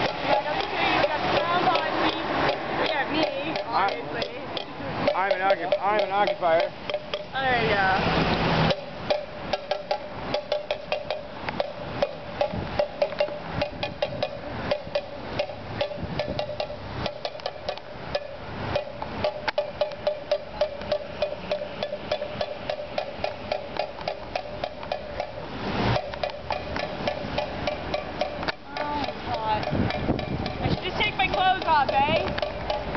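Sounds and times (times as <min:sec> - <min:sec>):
ringing percussion strikes: 0:00.0 - 0:32.9.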